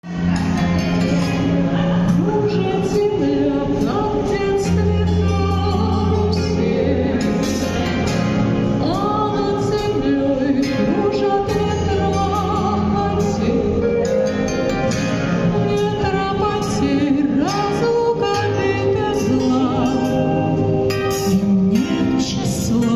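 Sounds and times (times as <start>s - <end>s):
pop ballad over backing track: 0.1s - 22.9s.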